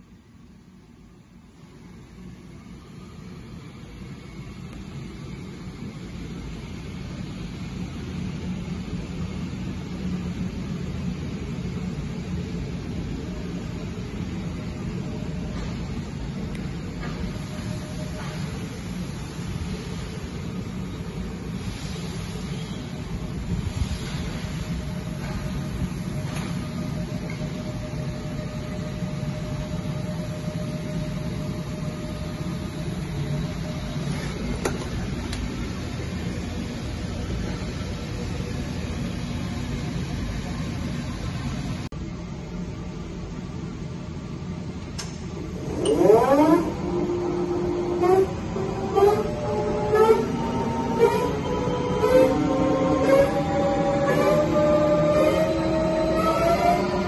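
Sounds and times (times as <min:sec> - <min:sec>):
faint hum: 0:00.0 - 0:57.0
low mechanical rumble: 0:00.0 - 0:57.0.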